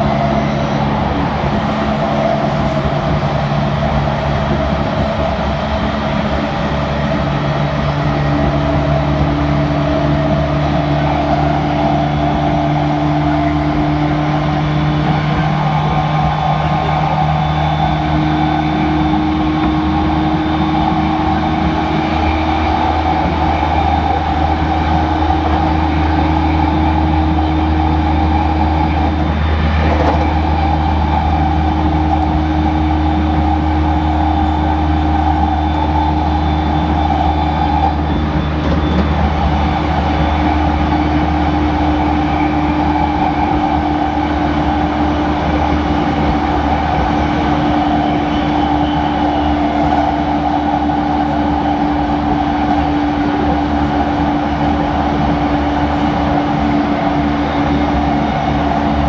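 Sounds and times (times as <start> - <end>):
electric train humming: 0.0 - 59.0.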